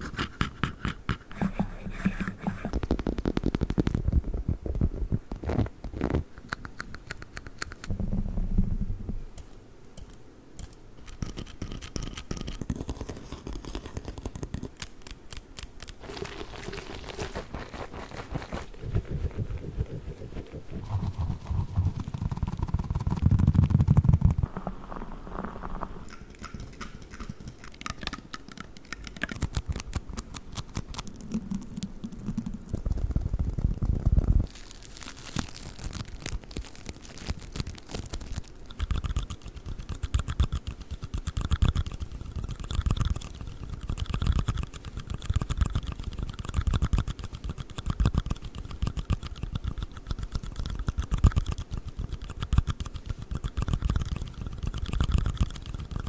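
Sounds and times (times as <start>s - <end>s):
fast tapping and scratching: 0.0s - 8.1s, 11.0s - 34.5s, 35.6s - 56.0s.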